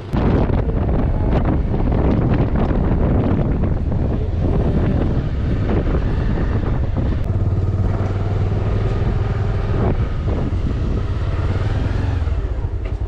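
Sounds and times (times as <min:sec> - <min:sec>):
motorbike engine running: 0:00.0 - 0:13.0
wind buffeting microphone: 0:00.0 - 0:13.0.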